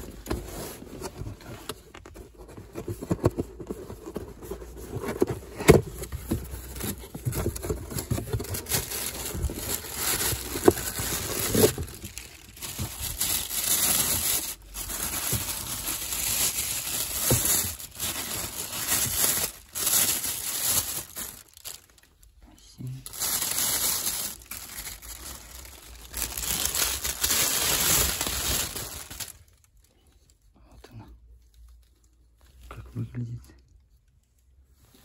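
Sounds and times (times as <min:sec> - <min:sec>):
packaging crinkling and rustling: 0:00.0 - 0:29.8.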